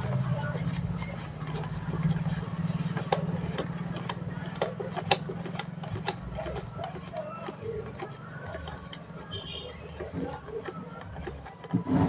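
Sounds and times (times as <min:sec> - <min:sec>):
low motor hum: 0:00.0 - 0:12.0
sharp clicks and taps: 0:00.8 - 0:11.9.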